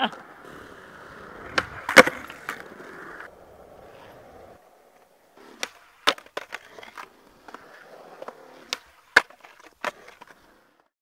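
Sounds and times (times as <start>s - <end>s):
skateboard wheels rolling on concrete: 0.0s - 11.0s
skateboard clacking on concrete: 1.0s - 10.8s.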